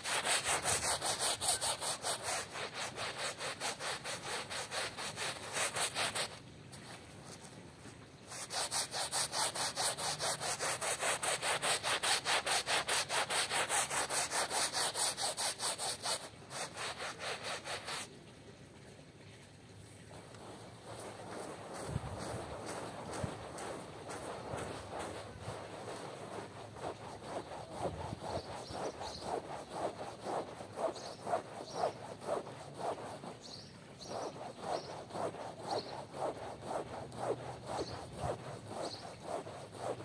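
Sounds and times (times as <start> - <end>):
brush scrubbing wet carpet: 0.0 - 7.5, 8.2 - 18.1, 20.1 - 40.0.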